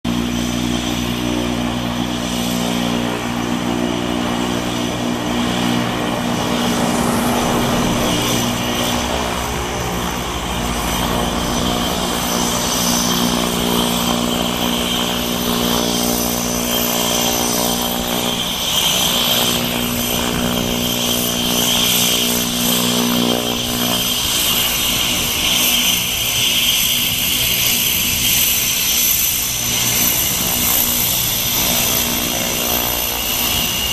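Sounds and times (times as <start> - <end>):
propeller drone: 0.0 - 33.9
turboprop turbine whine: 0.0 - 33.9.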